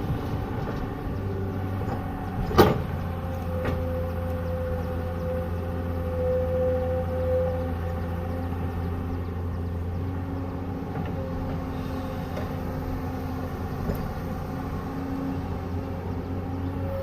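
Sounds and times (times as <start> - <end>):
excavator diesel engine running: 0.0 - 17.0
faint whining tone: 2.3 - 17.0.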